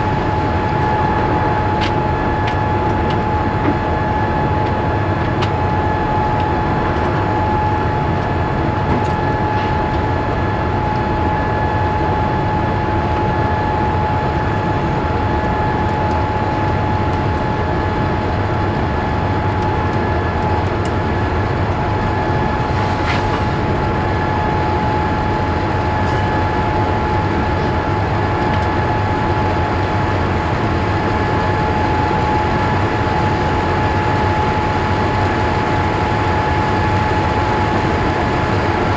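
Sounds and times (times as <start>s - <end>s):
airplane engine and airflow noise: 0.0s - 38.9s
steady high whine: 0.0s - 38.9s.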